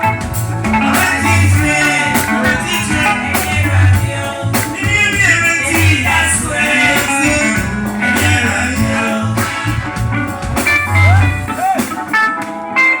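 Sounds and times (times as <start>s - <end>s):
electric guitar: 0.0s - 13.0s
live band music: 0.0s - 13.0s.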